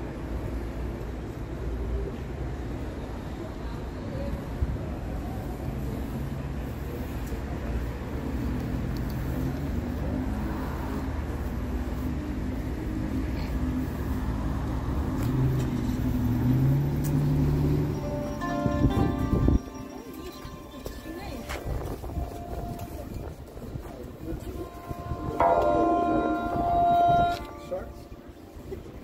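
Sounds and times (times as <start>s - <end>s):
city street noise: 0.0s - 29.0s.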